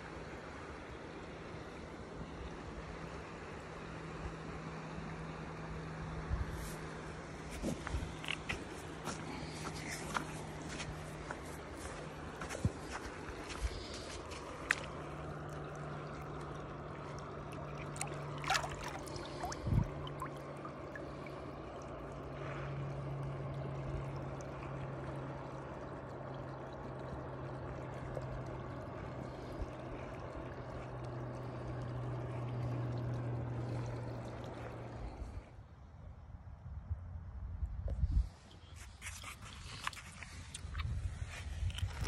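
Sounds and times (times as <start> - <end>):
river water trickling: 0.0 - 36.5, 37.6 - 42.0.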